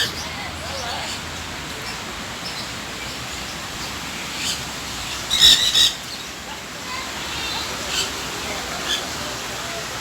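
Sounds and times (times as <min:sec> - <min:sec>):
birds calling: 0:00.0 - 0:09.9
outdoor background hiss: 0:00.0 - 0:10.0.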